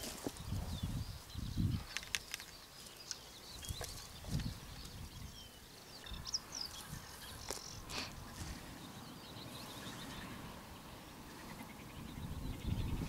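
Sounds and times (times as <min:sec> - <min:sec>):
small birds chirping faintly: 0:00.0 - 0:13.0.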